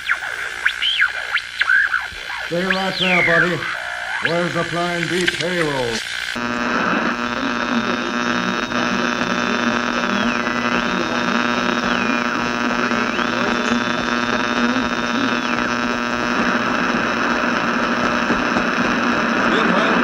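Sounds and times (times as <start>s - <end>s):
electrical hum and buzz: 0.0s - 20.0s.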